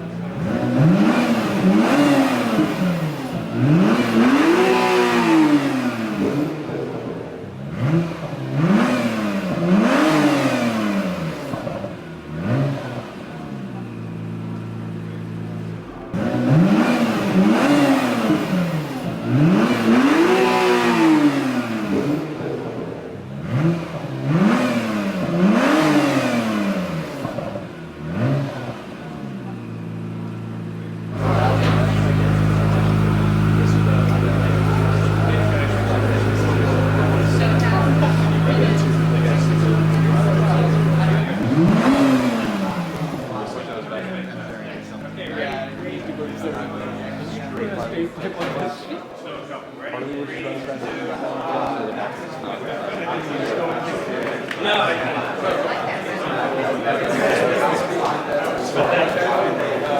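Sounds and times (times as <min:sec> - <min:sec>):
car engine revving: 0:00.0 - 0:48.8
car engine idling: 0:00.0 - 0:49.0.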